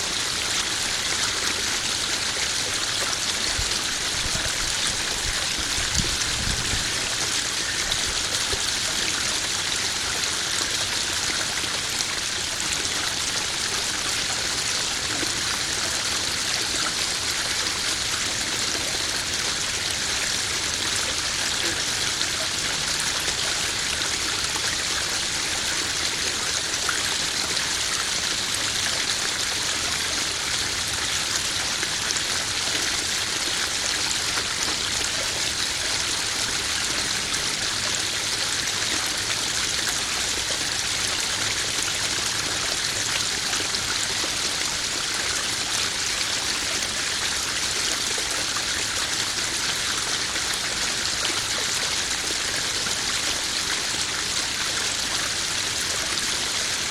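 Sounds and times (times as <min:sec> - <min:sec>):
waterfall splashing into pond: 0:00.0 - 0:56.9.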